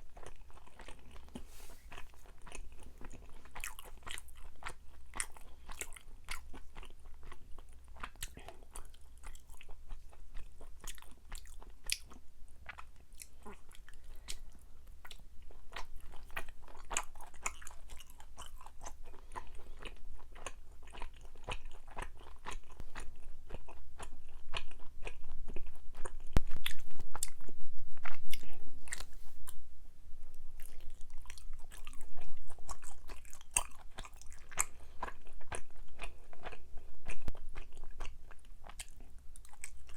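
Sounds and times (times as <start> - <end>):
chewing with wet mouth clicks: 0.0 - 29.1, 30.6 - 39.9.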